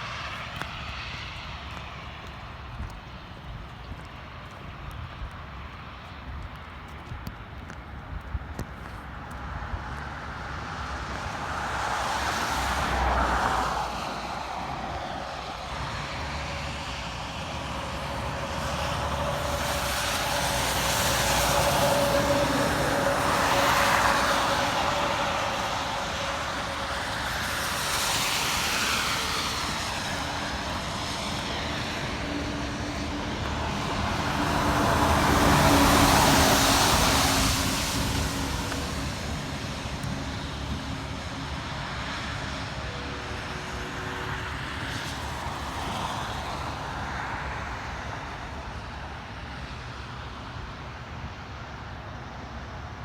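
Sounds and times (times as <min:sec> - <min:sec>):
vehicles passing on snowy road: 0:00.0 - 0:53.0.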